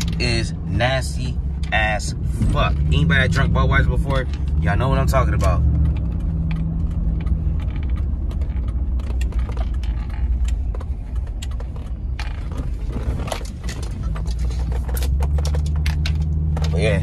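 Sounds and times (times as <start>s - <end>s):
engine and road rumble: 0.0s - 17.0s
light clicks and rattles: 2.7s - 17.0s.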